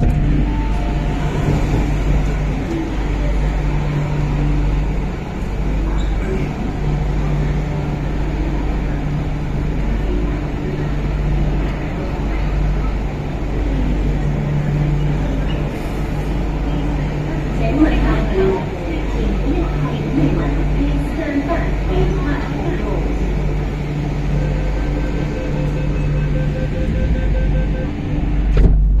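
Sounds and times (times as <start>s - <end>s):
train rumbling on track: 0.0s - 29.0s.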